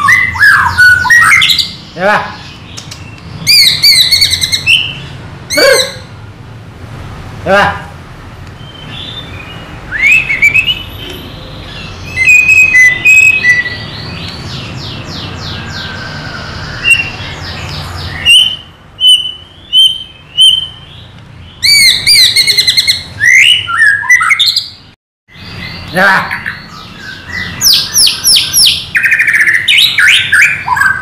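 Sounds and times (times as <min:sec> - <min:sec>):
songbird singing: 0:00.0 - 0:06.4, 0:08.4 - 0:31.0.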